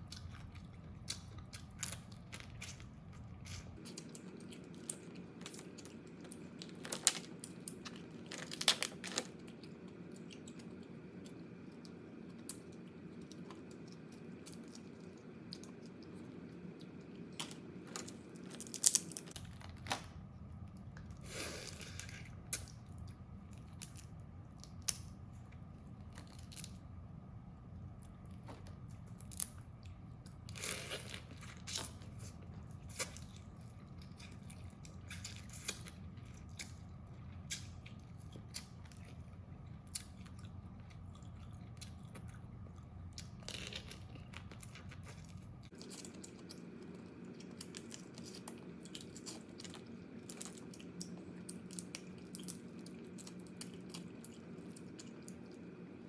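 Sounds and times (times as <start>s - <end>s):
chewing: 0.0s - 20.0s, 28.0s - 55.9s
steady low hum: 0.0s - 56.0s.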